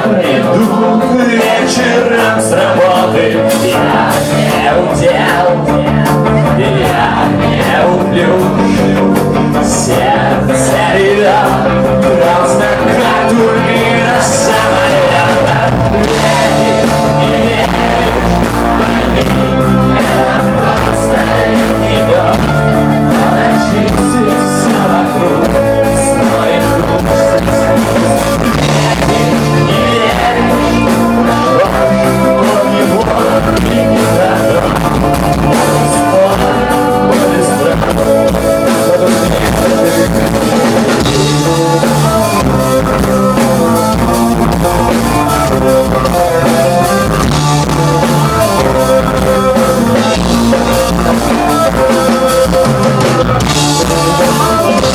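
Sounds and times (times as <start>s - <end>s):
drum kit: 0.0s - 54.9s
electric guitar: 0.0s - 54.9s.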